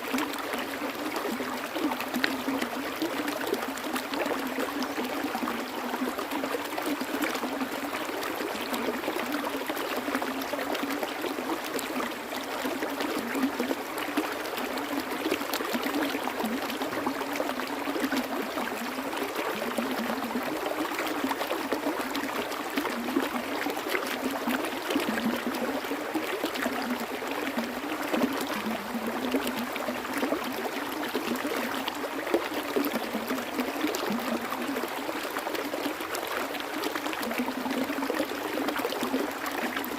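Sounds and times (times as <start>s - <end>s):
stream water rushing and trickling: 0.0s - 39.9s.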